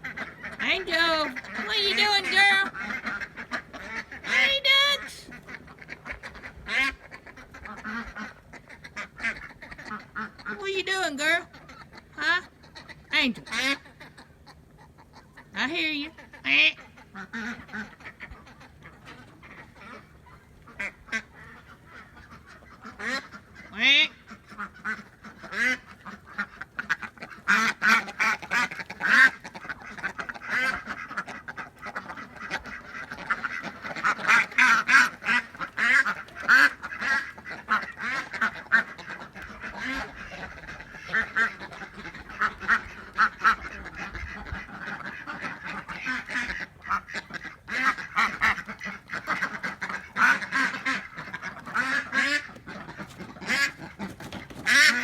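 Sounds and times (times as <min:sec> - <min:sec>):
duck quacking: 0:00.0 - 0:55.0.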